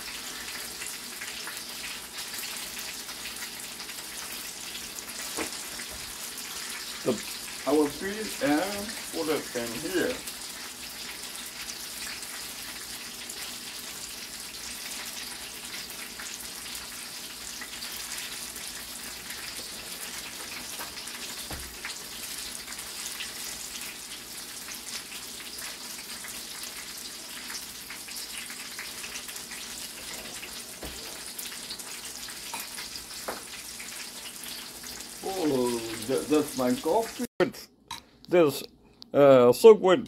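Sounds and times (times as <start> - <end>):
food sizzling in hot oil: 0.0 - 37.4.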